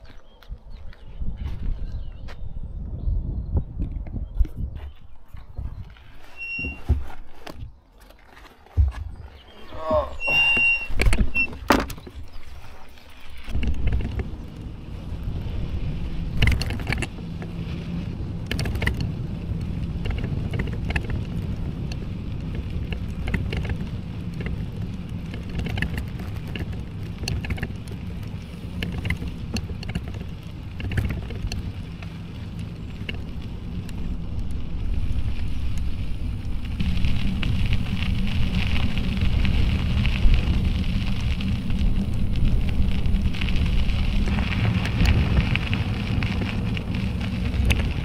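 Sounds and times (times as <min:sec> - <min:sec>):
wind on microphone: 0:00.3 - 0:07.0, 0:13.3 - 0:48.0
bike rattling over bumps: 0:03.6 - 0:48.0
tyres rumbling on gravel: 0:04.6 - 0:48.0.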